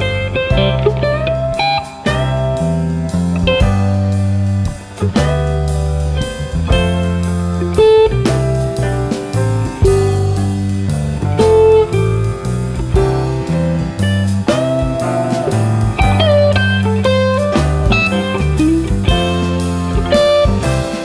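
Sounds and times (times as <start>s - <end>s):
lead guitar with bent notes: 0.0s - 21.0s
steady bass line: 0.0s - 21.0s.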